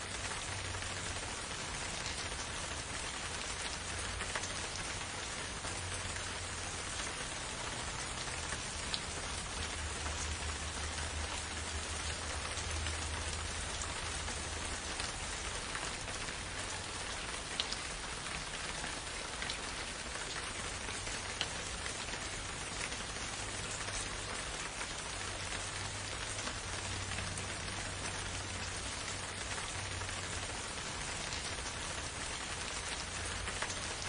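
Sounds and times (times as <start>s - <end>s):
raindrops ticking: 0.0s - 34.0s
steady rain hiss: 0.0s - 34.0s.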